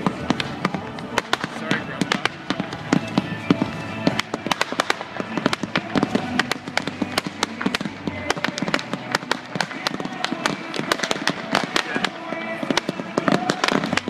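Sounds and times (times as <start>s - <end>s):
fireworks bangs and cracks: 0.0s - 14.0s.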